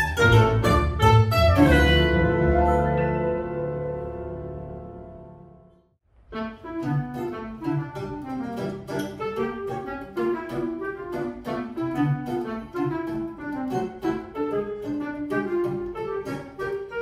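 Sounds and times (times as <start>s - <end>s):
clarinet melody: 0.0s - 5.7s, 6.3s - 17.0s
plucked mandolin notes: 0.0s - 5.7s, 6.4s - 17.0s
double bass: 0.0s - 17.0s
piano: 0.0s - 17.0s.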